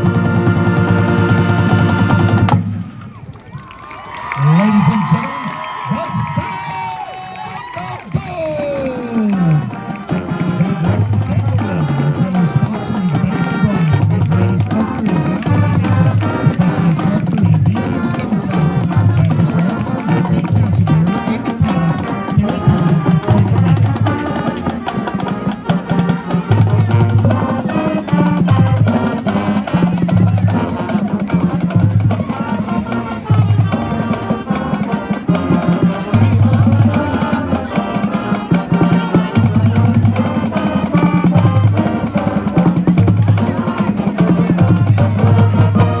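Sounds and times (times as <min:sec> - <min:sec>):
brass instruments: 0:00.0 - 0:46.0
snare and bass drums: 0:08.0 - 0:46.0.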